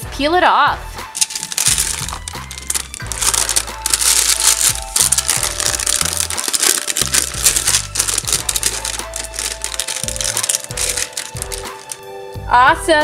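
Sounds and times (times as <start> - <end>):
paper crinkling as peeled off: 1.2 - 12.0.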